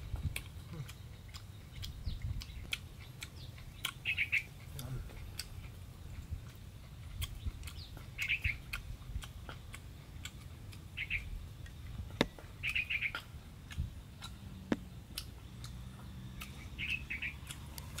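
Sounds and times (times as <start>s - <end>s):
bird chirping: 0.0s - 18.0s
low steady rumble: 0.0s - 18.0s.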